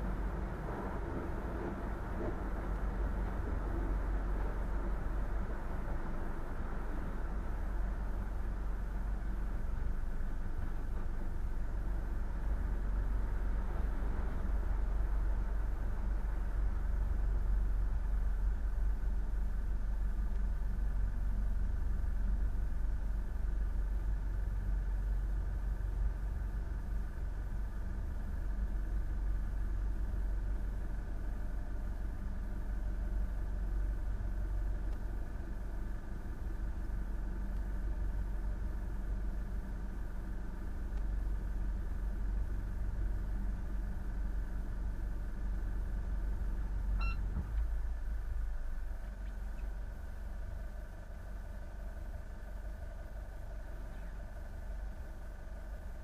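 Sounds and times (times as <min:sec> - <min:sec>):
engine droning steadily: 0:00.0 - 0:56.0.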